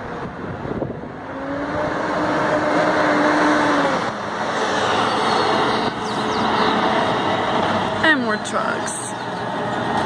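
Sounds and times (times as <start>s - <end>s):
road noise rushing: 0.0s - 10.0s
truck engine hum: 0.0s - 10.0s.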